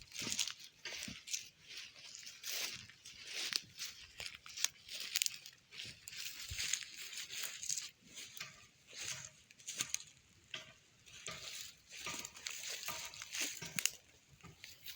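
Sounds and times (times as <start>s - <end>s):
rustling and crackling: 0.0s - 14.9s.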